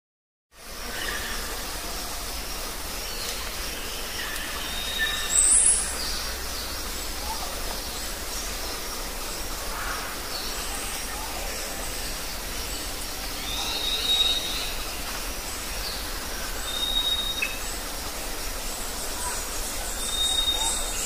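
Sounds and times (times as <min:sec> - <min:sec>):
steady background hiss: 0:00.6 - 0:21.0
high bird calls: 0:03.1 - 0:17.9, 0:18.7 - 0:21.0.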